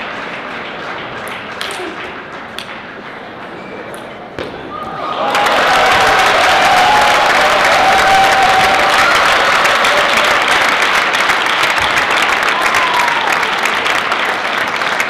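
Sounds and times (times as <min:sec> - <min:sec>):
spectators applauding: 0:00.0 - 0:03.6, 0:04.8 - 0:15.0.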